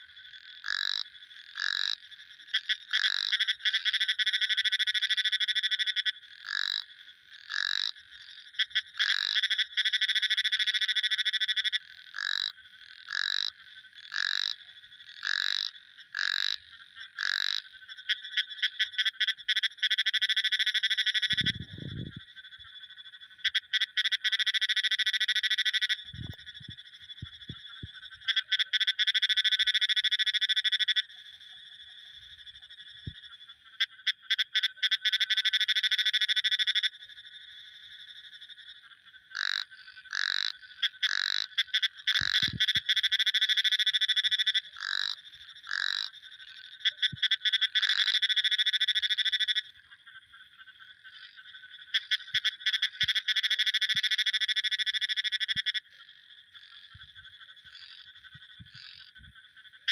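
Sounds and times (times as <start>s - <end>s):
frogs calling in pulsing trills: 0.0s - 59.9s.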